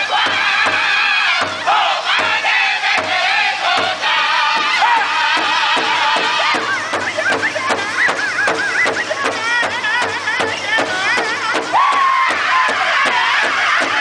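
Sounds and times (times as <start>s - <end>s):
group singing in wavering voices: 0.0s - 14.0s
large hide drum beating: 0.0s - 14.0s.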